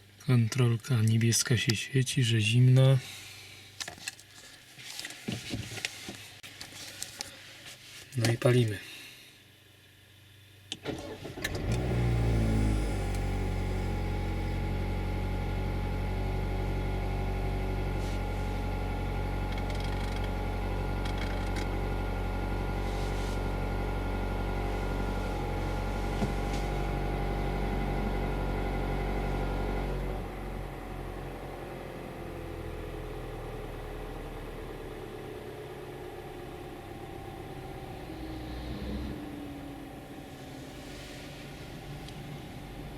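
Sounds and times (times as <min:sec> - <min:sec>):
car engine idling hum: 0:00.0 - 0:42.9.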